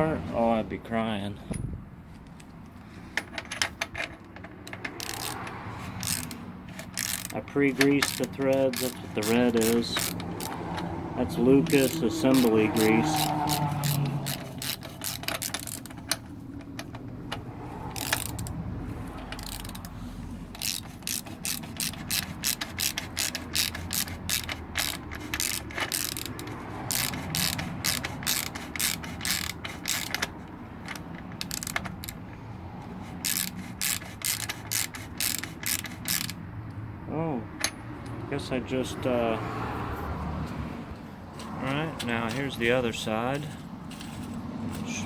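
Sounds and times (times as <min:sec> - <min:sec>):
ratchet wrench clicking: 0:03.2 - 0:36.8, 0:42.2 - 0:45.0.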